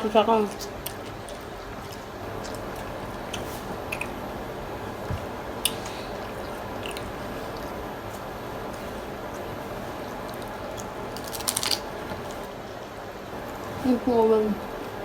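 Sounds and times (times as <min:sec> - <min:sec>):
person chewing food: 0:00.4 - 0:12.5.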